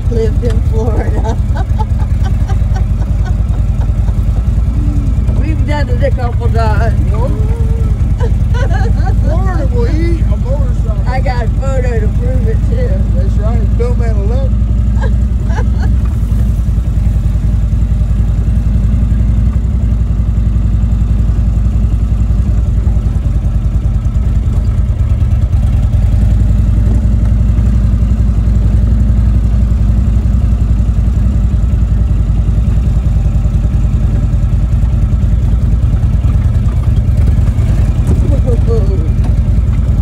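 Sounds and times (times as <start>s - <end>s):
motorcycle engine low rumble: 0.0s - 40.0s.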